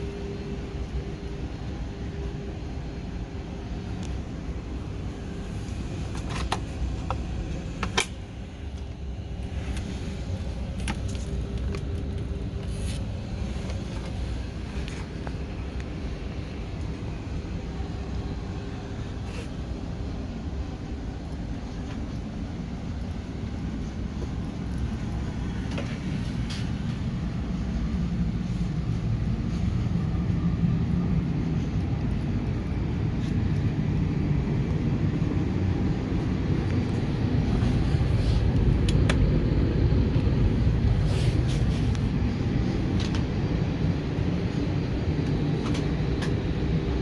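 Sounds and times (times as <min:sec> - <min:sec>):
airplane cabin rumble: 0:00.0 - 0:47.0.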